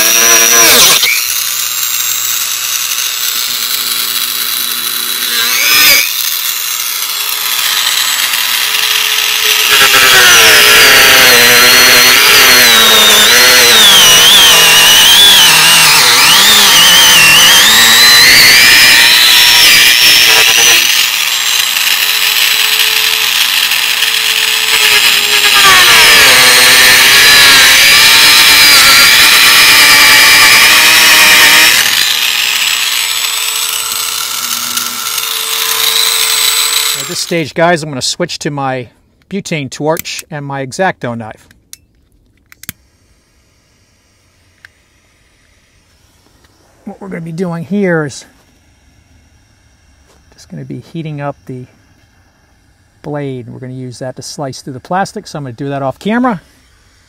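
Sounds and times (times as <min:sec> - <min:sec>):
rotary tool cutting plastic: 0:00.0 - 0:37.5, 0:42.4 - 0:53.1.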